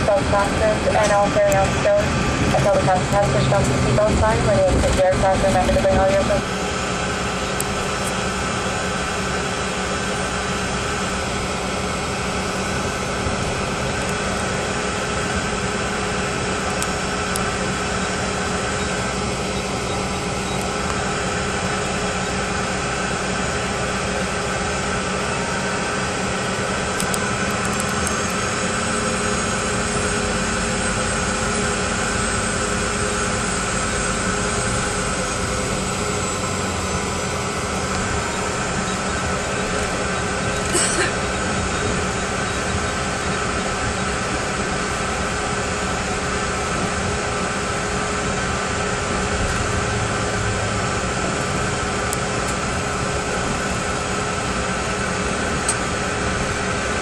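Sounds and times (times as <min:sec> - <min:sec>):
jet engines whining in cabin: 0:00.0 - 0:57.0.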